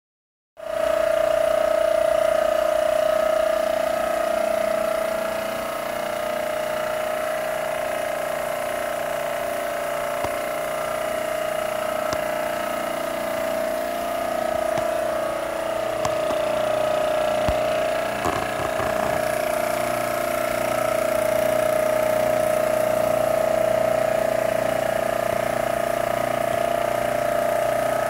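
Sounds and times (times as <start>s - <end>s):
machine whine: 0.6s - 28.0s.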